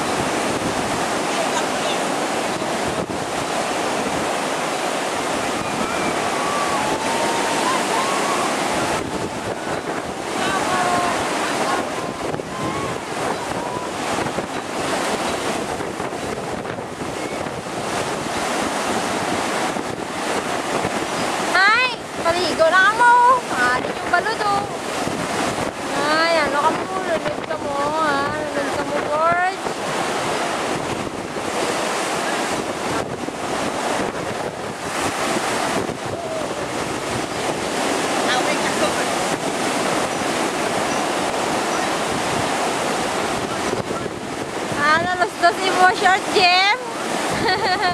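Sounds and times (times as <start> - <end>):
heavy surf breaking: 0.0 - 47.9
wind buffeting microphone: 0.0 - 47.9.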